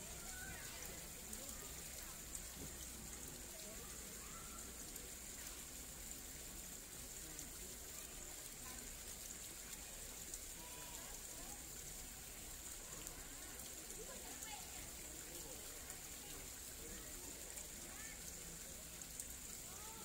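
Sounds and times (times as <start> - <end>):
stream water rushing and trickling: 0.0 - 20.0.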